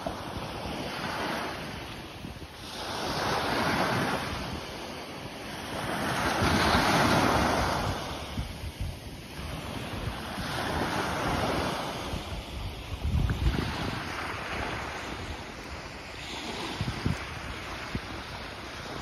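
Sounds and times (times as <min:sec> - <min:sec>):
small waves breaking on beach: 0:00.0 - 0:19.0
wind buffeting microphone: 0:00.0 - 0:19.0.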